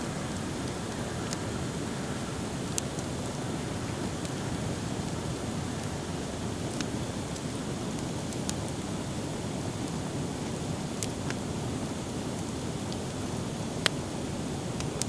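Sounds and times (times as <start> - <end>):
campfire crackling: 0.0 - 15.0
sharp pops of burning wood: 0.3 - 15.0.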